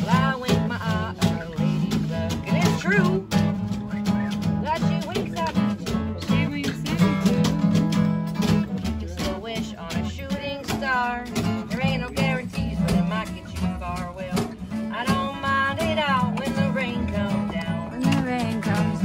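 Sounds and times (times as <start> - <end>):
person singing: 0.0 - 4.5, 5.2 - 19.0
acoustic guitars playing country: 0.0 - 19.0.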